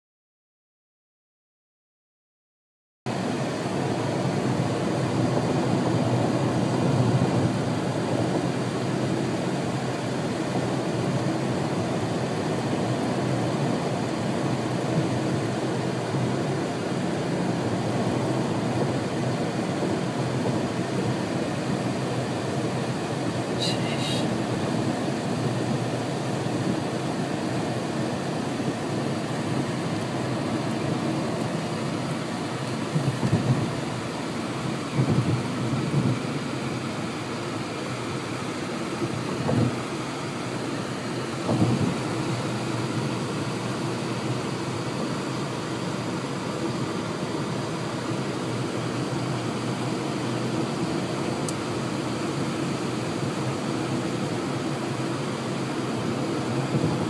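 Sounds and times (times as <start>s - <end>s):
car driving rumble: 3.1s - 57.0s.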